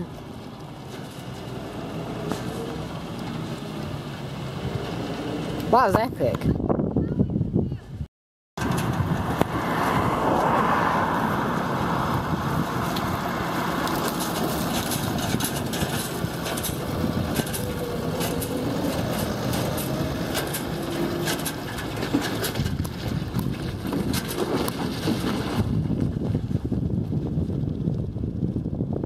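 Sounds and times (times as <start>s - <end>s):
tractor driving past: 0.0s - 5.9s, 8.6s - 26.4s.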